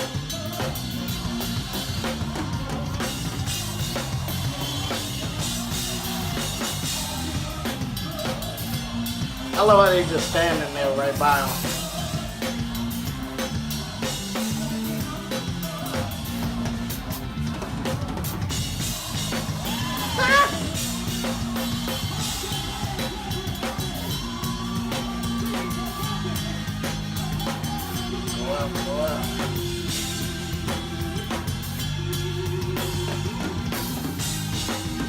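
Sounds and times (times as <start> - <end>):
rising vocal cry: 0.0 - 31.4
drum kit playing: 0.0 - 35.0.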